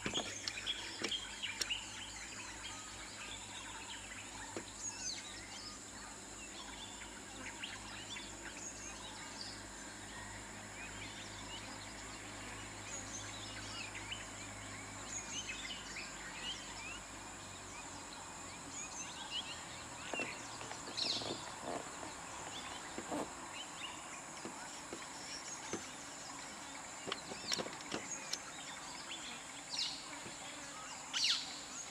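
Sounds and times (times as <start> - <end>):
birds chirping and calling: 0.0 - 17.0, 17.6 - 31.9.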